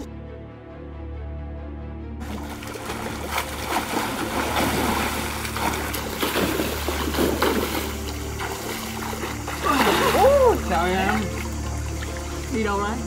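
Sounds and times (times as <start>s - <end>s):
pool water splashing: 2.2s - 13.0s.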